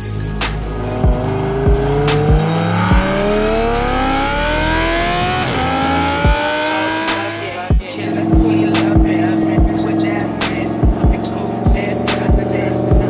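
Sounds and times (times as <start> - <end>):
background music with drum beat: 0.0 - 13.0
car engine accelerating hard: 0.0 - 13.0.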